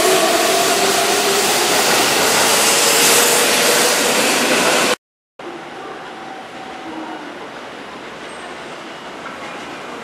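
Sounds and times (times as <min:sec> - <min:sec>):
distant train: 0:00.0 - 0:10.0
electric train running past: 0:00.0 - 0:10.0.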